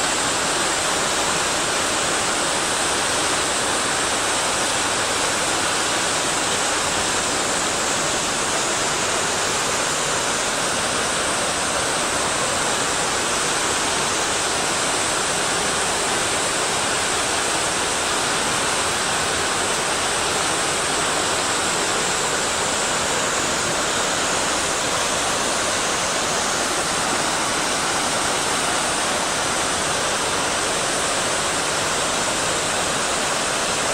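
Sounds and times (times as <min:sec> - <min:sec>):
rushing mountain water: 0:00.0 - 0:33.9.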